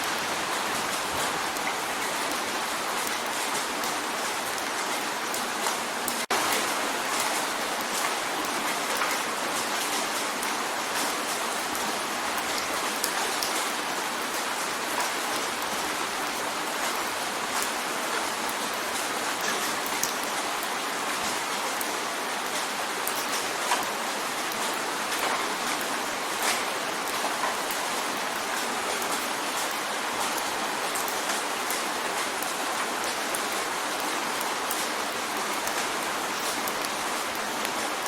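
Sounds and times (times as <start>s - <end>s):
rain drumming on a window: 0.0s - 38.0s.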